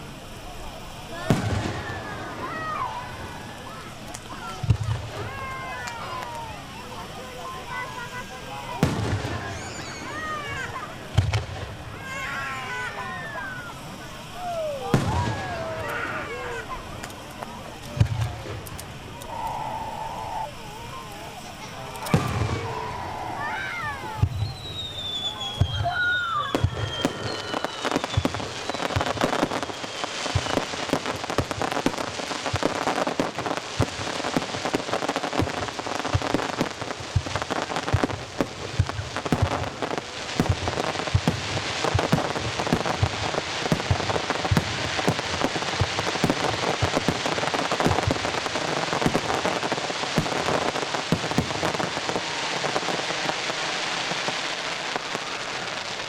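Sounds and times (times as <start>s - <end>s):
deep firework bangs: 0.0s - 6.6s, 7.7s - 20.6s, 21.3s - 55.8s
falling firework whistle: 0.0s - 56.0s
fireworks crackling: 0.0s - 56.0s.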